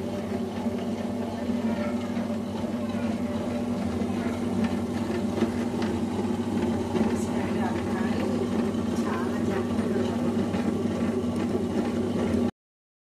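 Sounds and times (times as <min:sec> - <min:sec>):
wet grinder motor humming: 0:00.0 - 0:12.5.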